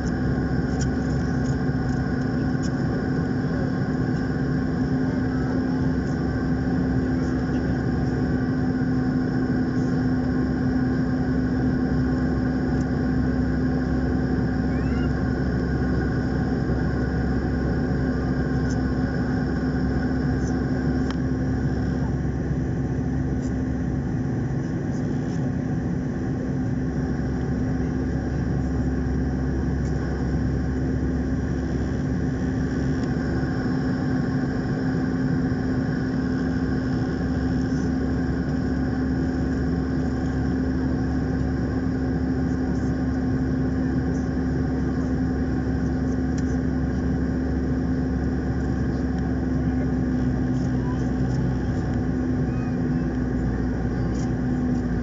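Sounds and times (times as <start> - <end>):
constant low hum: 0.0 - 55.0
jet engines droning: 0.0 - 55.0.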